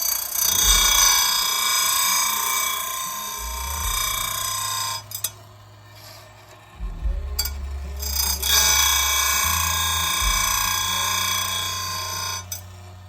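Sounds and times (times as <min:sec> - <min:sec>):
grinder motor humming: 0:00.0 - 0:13.0
grinding wheel ringing on chain: 0:00.0 - 0:13.0.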